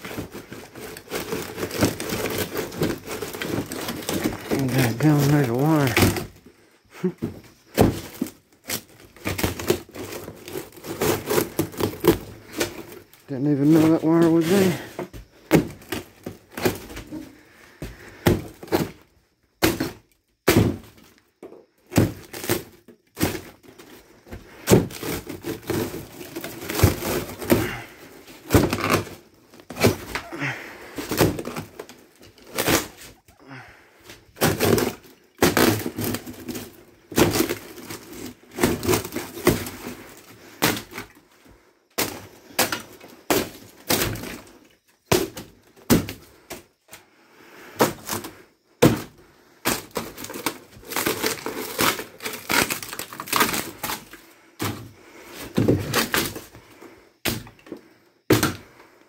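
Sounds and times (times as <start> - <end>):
thin wood cracking: 0.0 - 46.7, 47.7 - 58.8.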